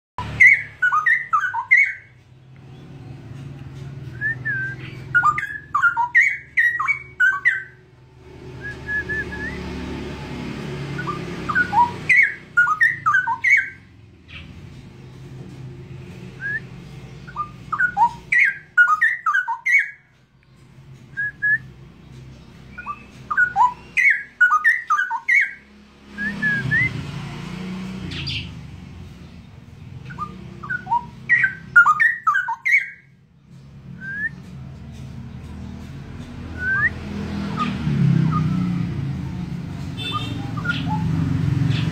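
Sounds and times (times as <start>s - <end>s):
bird whistling song: 0.2s - 2.9s, 3.9s - 10.0s, 10.9s - 14.5s, 16.2s - 20.1s, 20.9s - 27.0s, 28.1s - 28.6s, 29.2s - 35.2s, 36.2s - 39.0s, 40.0s - 41.9s.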